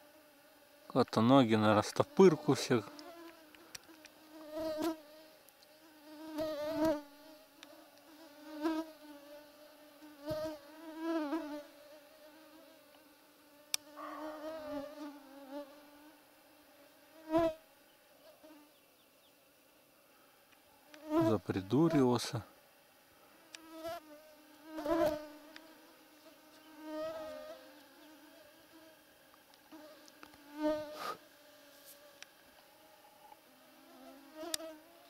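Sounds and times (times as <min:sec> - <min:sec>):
flying insect buzzing: 0:00.0 - 0:35.0.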